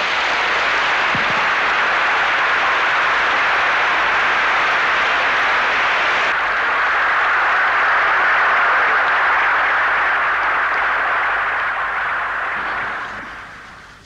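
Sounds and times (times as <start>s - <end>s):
large audience applauding: 0.0s - 14.0s.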